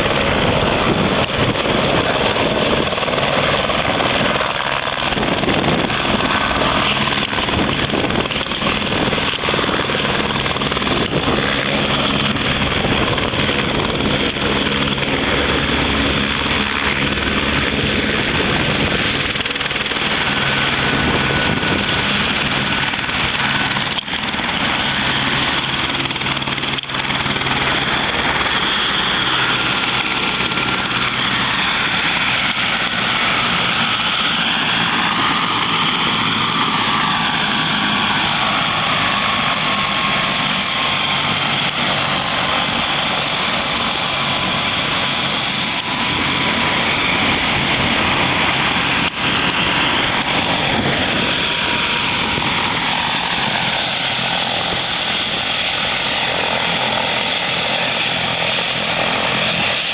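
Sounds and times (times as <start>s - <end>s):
helicopter engine and rotor idling: 0.0s - 59.9s.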